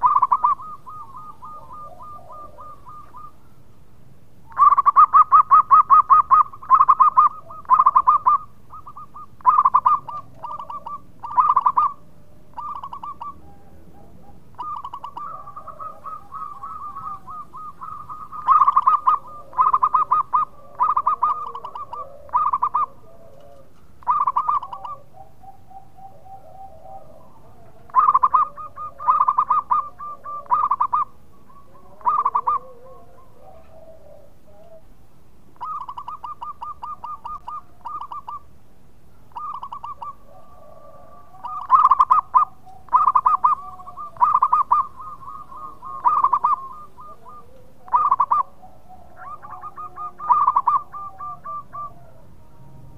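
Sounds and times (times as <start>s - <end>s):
dove rattling coos: 0.0s - 3.4s, 4.5s - 34.9s, 35.6s - 38.6s, 39.3s - 52.9s.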